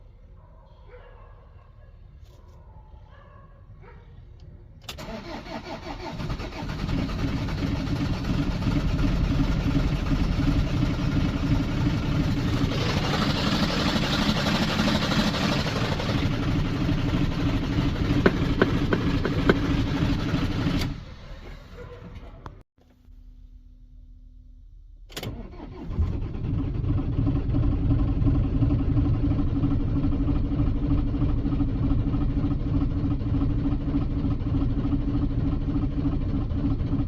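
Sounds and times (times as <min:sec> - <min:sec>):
van engine cranking and running: 0:04.8 - 0:22.6, 0:25.1 - 0:37.0.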